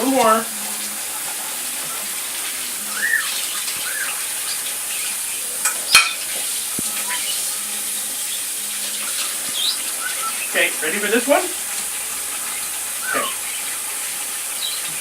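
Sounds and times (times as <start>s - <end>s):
tap water running: 0.0s - 15.0s.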